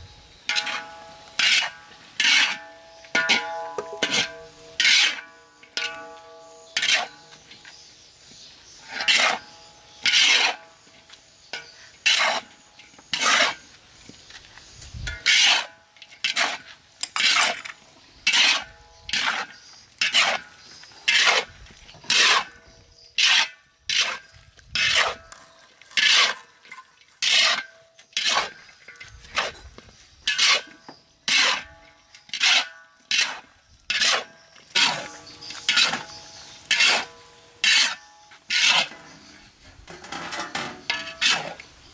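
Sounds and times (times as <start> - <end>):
metal spatula scraping wok: 0.2 - 8.1, 8.7 - 13.8, 14.9 - 41.9.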